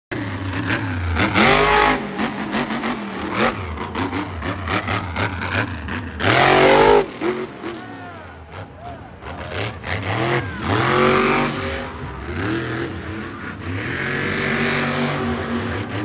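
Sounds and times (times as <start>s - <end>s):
monster truck engine revving: 0.1s - 16.0s.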